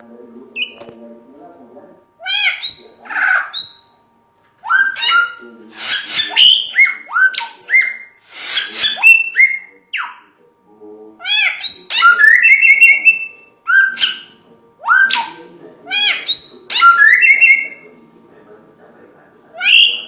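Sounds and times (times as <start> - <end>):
songbird singing: 0.0 - 1.0, 2.2 - 10.4, 11.2 - 18.1, 19.6 - 20.0.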